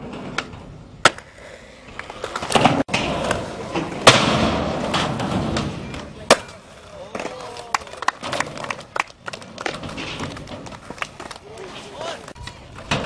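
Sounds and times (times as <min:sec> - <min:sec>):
skateboard clacks: 0:00.0 - 0:13.0
skateboard wheels rolling on concrete: 0:00.0 - 0:13.0.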